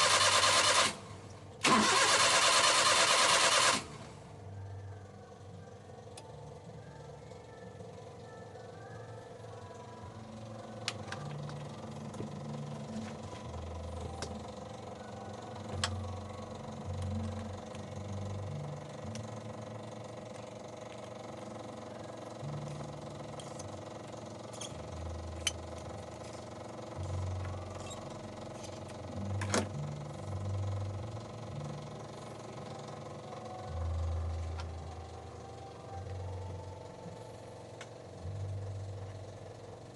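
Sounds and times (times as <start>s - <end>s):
engine idling rumble: 0.0s - 39.9s.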